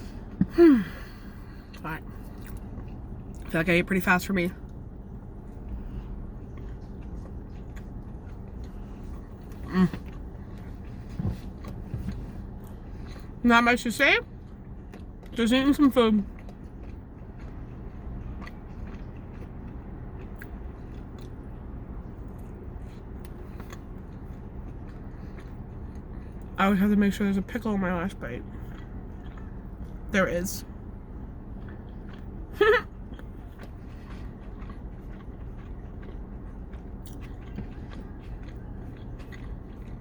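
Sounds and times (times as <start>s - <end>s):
person chewing: 0.0s - 3.5s, 4.6s - 13.4s, 14.3s - 26.6s, 28.0s - 40.0s
low rumble: 0.0s - 40.0s
steady low hum: 0.0s - 40.0s.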